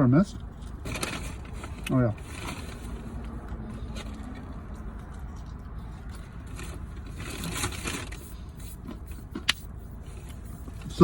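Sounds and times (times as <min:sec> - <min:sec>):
food rustling and scraping: 0:00.4 - 0:11.0.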